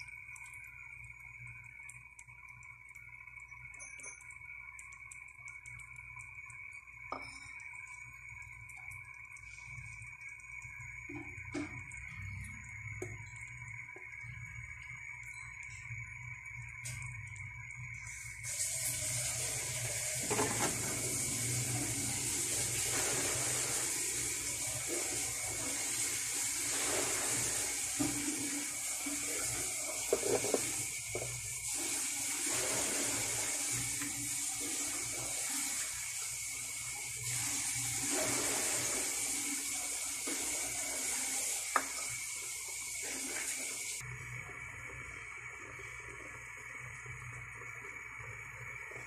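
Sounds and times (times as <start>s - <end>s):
stew simmering and sizzling: 0.0s - 49.0s.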